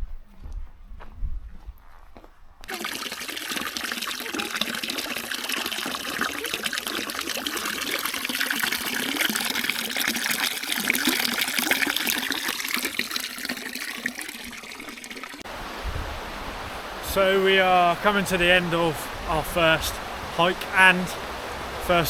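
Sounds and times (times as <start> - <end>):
stream water rushing: 2.7 - 22.0.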